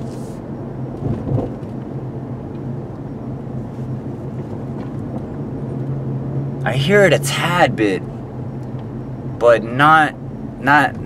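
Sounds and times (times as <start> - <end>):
car engine hum: 0.0 - 11.0
tyre road noise: 0.0 - 11.0.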